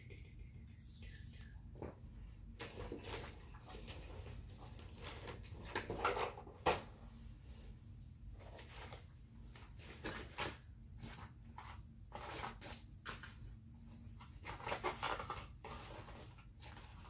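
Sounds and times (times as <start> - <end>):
rustling and handling noises: 0.0 - 17.0.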